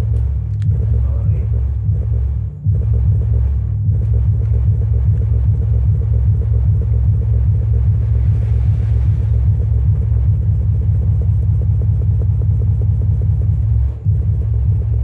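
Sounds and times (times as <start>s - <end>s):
deep bass with pulsing beat: 0.0s - 15.0s.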